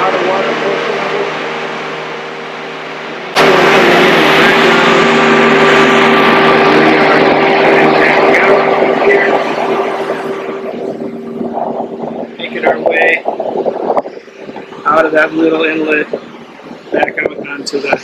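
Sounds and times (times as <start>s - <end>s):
loud mechanical whir: 0.0s - 18.0s
marine engines idling: 0.0s - 18.0s.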